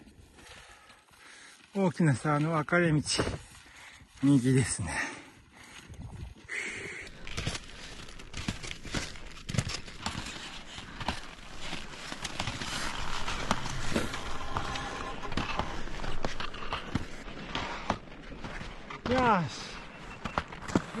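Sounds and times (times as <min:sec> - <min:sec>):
skis crunching and scraping on snow: 0:00.0 - 0:21.0.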